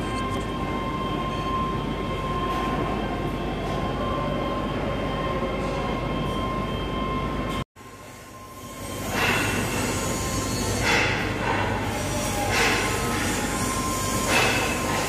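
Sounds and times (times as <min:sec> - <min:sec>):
steady high machine tone: 0:00.0 - 0:15.0.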